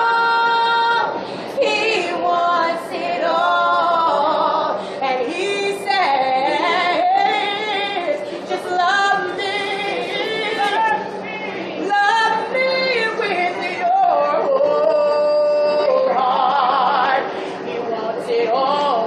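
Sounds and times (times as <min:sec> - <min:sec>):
women singing gospel: 0:00.0 - 0:19.0.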